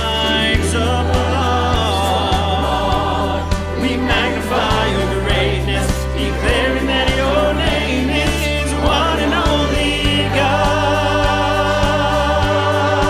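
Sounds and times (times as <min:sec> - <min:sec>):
instrumental backing with beat: 0:00.0 - 0:13.0
mixed choir singing: 0:00.0 - 0:13.0.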